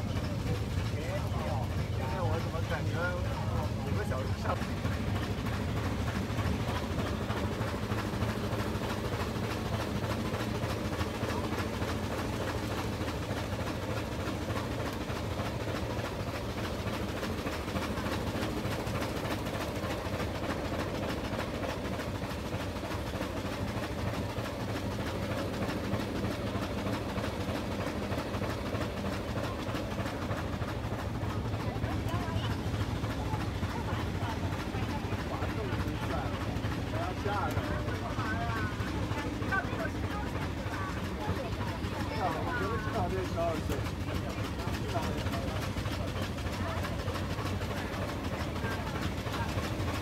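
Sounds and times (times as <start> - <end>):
train rumbling and rattling: 0.0 - 50.0.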